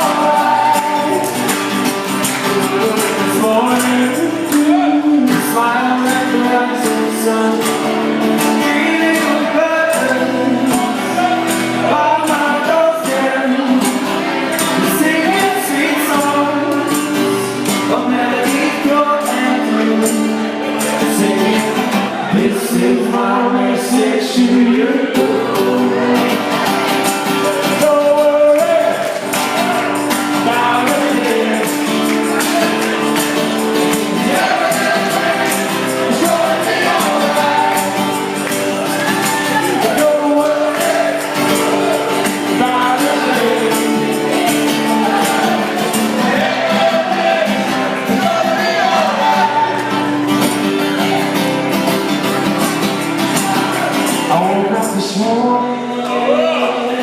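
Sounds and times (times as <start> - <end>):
live band playing: 0.0 - 23.4, 25.1 - 57.0
voices singing: 0.0 - 51.7.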